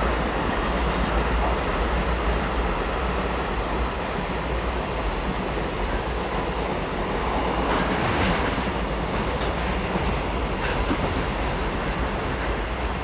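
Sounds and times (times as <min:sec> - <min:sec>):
freight train wheels rattling on rails: 0:00.0 - 0:13.0.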